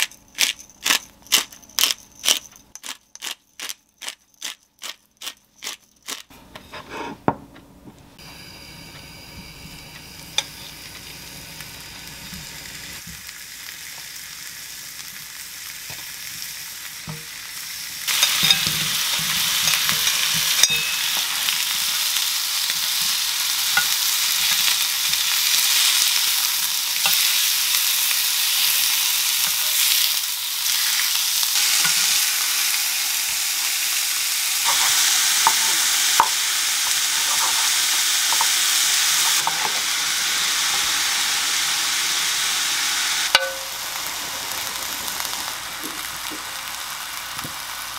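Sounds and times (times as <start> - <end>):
meat sizzling in a grill pan: 8.3 - 47.9.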